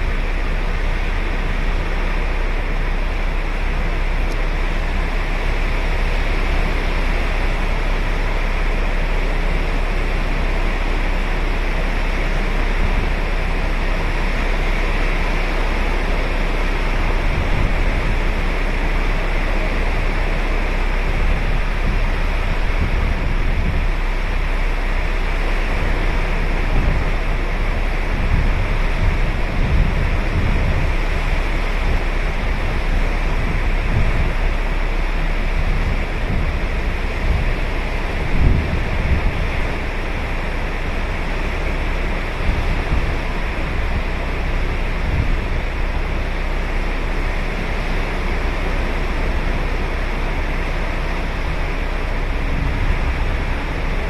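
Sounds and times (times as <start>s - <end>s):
low rumbles: 0.0s - 54.0s
waves breaking on a beach: 0.0s - 54.0s.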